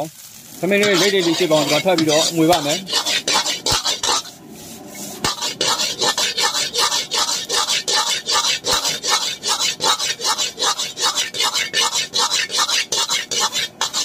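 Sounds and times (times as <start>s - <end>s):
metal spatula scraping wok: 0.0s - 14.0s.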